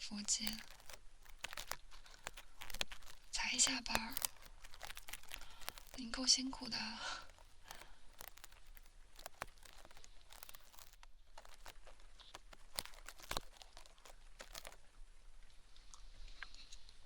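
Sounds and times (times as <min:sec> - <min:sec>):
crackling scratches in ear: 0:00.0 - 0:15.0.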